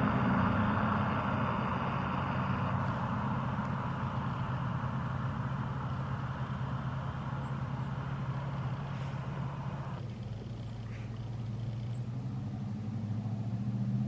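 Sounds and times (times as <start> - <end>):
pickup truck exhaust drone: 0.0 - 14.0.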